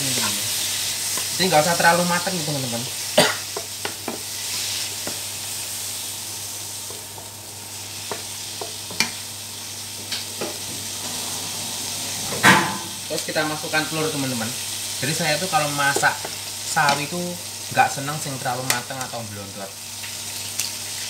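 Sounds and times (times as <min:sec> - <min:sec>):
greens sizzling in a wok: 0:00.0 - 0:21.0.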